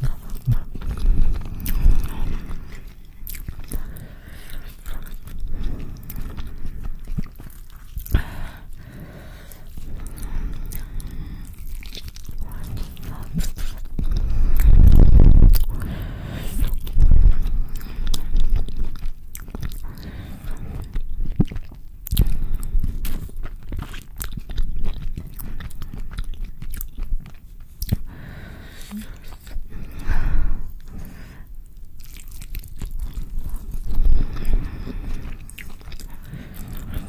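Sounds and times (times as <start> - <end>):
close chewing and mouth smacks: 0.0 - 37.0.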